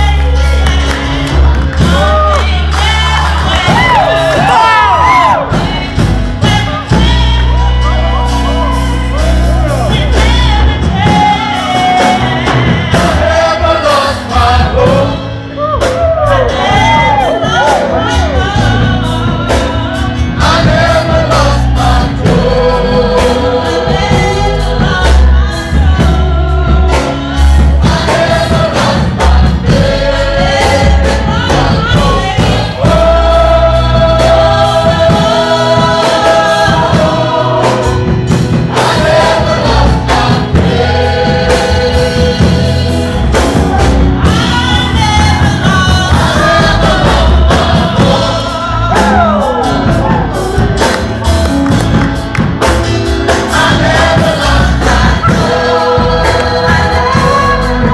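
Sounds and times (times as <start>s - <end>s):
gospel choir singing: 0.0s - 57.9s
heavy bass accompaniment: 0.0s - 57.9s.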